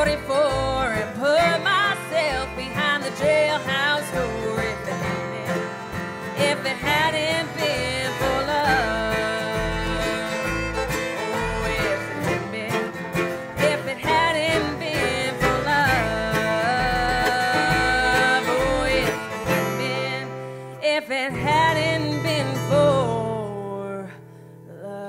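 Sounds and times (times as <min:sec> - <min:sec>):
bluegrass band playing: 0:00.0 - 0:24.0
fiddle long wavering notes: 0:00.0 - 0:24.0.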